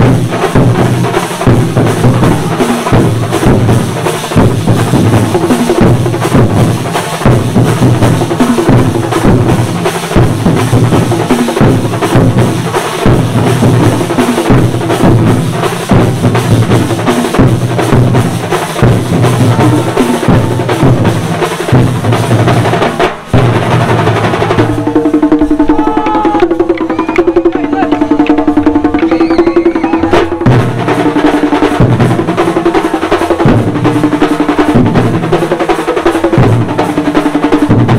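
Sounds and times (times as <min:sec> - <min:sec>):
drums playing fast rhythm: 0:00.0 - 0:37.9.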